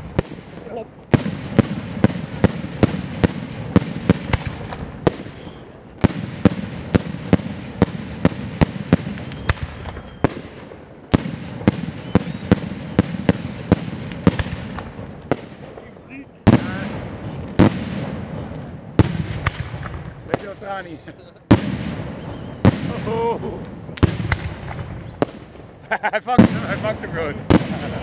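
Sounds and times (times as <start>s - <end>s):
firework shells bursting: 0.0s - 20.9s, 21.5s - 28.0s.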